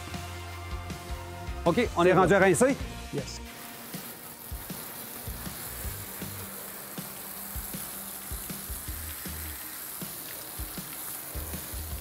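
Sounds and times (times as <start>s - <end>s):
hose spraying water on hull: 0.0s - 12.0s.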